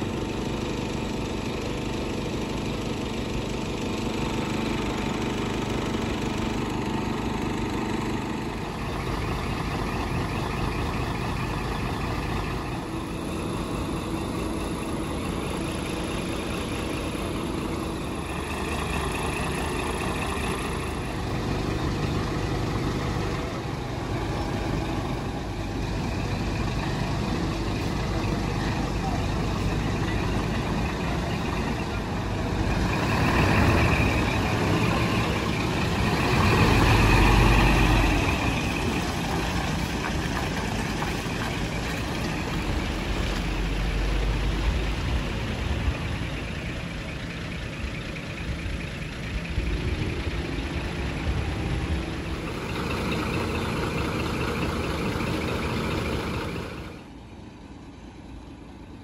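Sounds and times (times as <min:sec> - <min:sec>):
diesel engines idling: 0:00.0 - 0:59.0.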